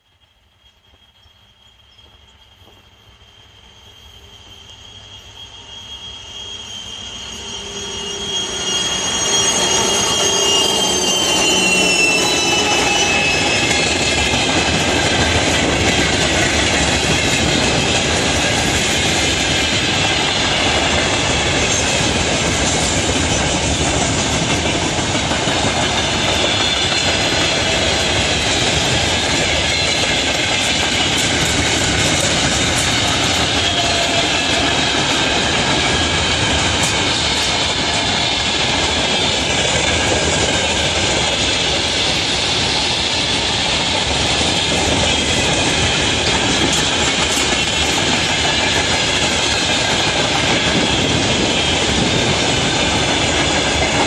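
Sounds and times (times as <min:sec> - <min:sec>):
clickety-clack of rail joints: 0:00.0 - 0:03.2, 0:08.9 - 0:54.0
train wheels rumbling on rails: 0:00.0 - 0:54.0.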